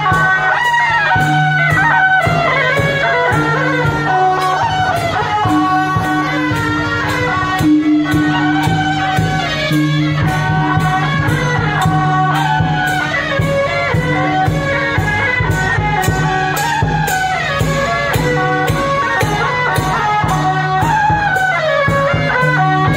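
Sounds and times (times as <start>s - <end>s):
percussion striking: 0.0s - 22.9s.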